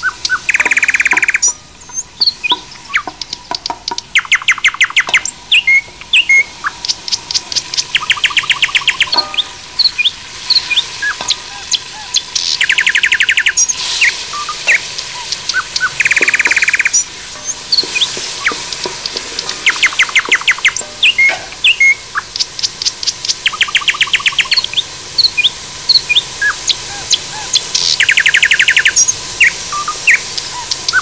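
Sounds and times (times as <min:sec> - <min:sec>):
fast bird trills: 0:00.0 - 0:31.0
small songbirds chirping: 0:00.0 - 0:31.0.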